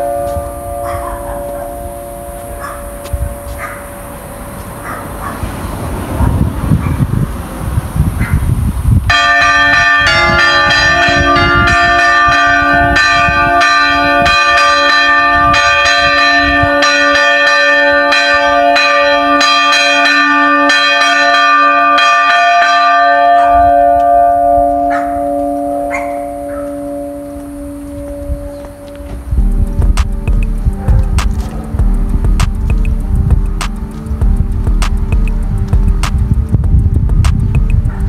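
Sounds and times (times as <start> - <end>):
church bells ringing: 0.0 - 6.6, 9.1 - 36.0.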